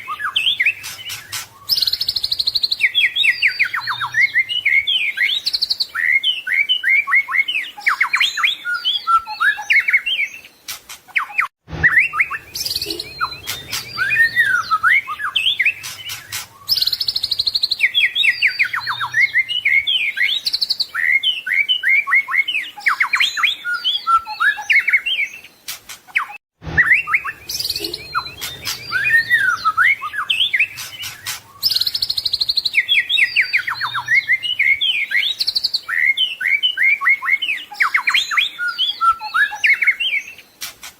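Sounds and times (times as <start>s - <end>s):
songbird singing whistles and trills: 0.0s - 40.7s.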